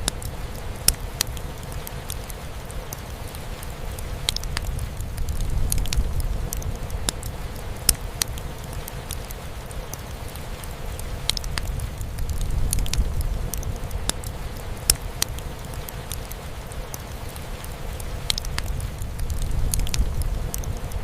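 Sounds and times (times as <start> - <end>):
fireplace crackling and popping: 0.0 - 21.0
rain drumming on a roof: 0.0 - 21.0.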